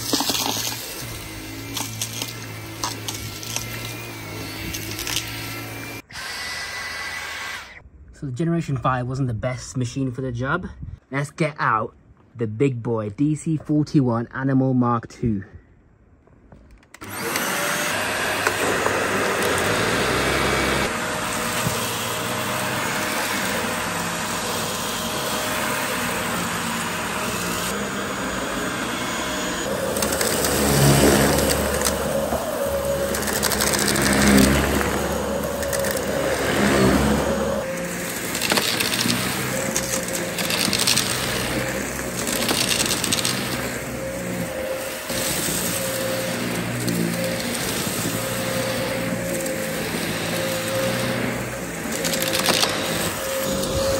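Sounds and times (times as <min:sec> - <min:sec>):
vacuum cleaner motor whine: 0:00.0 - 0:07.8, 0:17.0 - 0:53.9.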